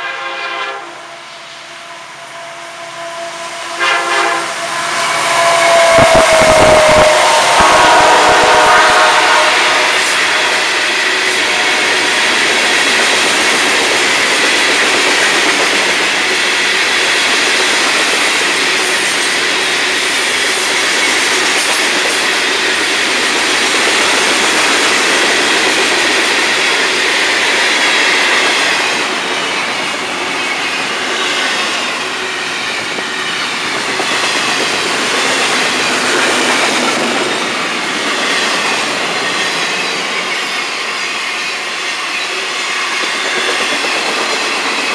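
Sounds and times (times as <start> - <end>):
steel wheels on rail: 0.0 - 44.9.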